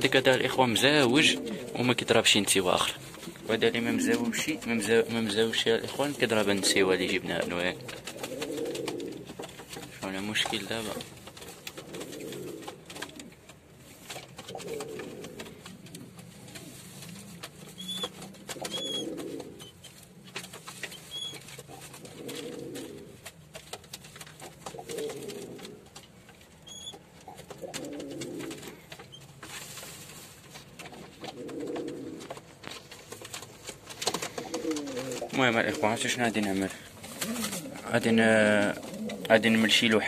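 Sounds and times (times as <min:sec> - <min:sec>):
pigeon cooing: 0:00.0 - 0:09.5, 0:10.7 - 0:13.5, 0:14.4 - 0:23.3, 0:24.4 - 0:26.0, 0:26.6 - 0:29.2, 0:31.0 - 0:32.4, 0:34.1 - 0:39.9.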